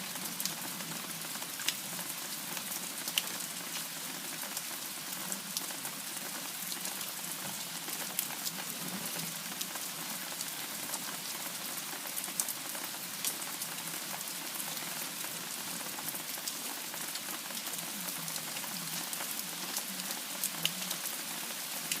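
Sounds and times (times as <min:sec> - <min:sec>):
steady rain: 0:00.0 - 0:22.0
raindrops ticking close by: 0:00.2 - 0:22.0.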